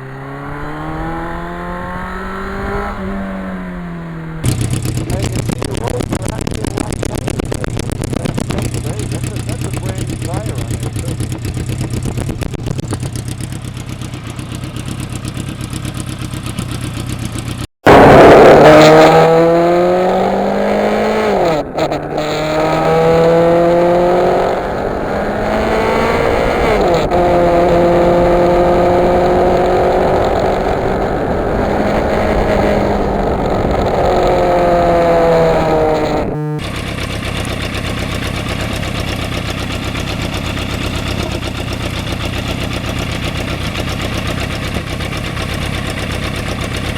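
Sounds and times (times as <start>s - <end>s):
motorcycle engine pulling through gears: 0.0s - 46.9s.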